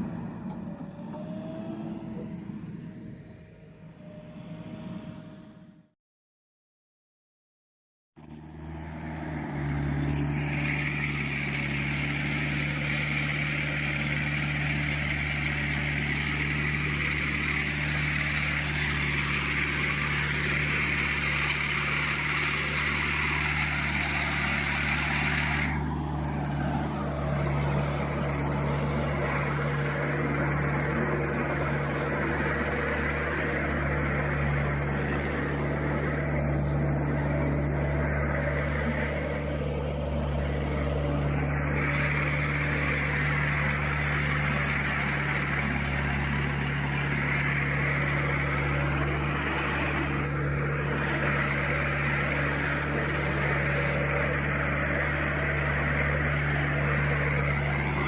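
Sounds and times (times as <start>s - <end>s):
tractor diesel engine labouring: 0.0s - 5.7s, 8.2s - 58.0s.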